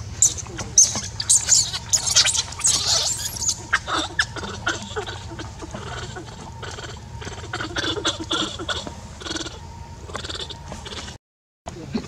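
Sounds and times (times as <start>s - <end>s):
monkeys squealing: 0.0s - 11.2s.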